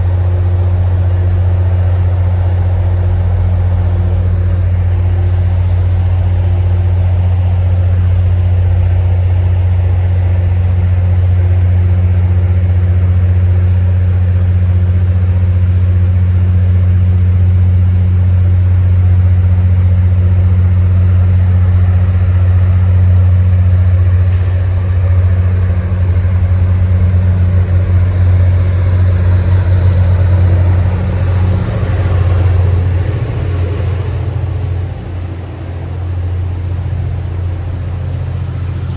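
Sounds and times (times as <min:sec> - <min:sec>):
locomotive engine humming: 0:00.0 - 0:38.9.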